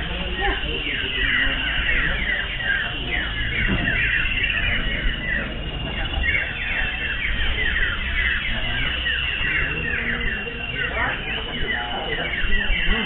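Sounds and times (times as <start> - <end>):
chorus of birds whistling: 0.0 - 13.0.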